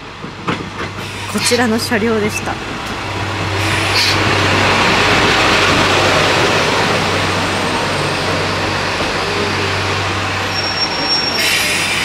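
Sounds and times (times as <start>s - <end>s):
diesel railcar engine idling: 0.0s - 12.0s.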